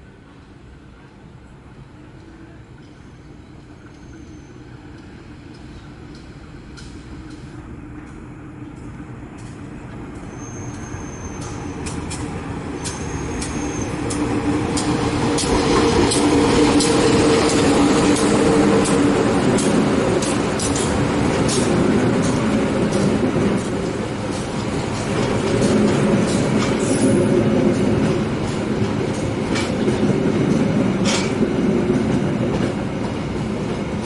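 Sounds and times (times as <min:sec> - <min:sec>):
train rumble: 0:00.0 - 0:34.0
wheels clicking on rail joints: 0:03.8 - 0:34.0.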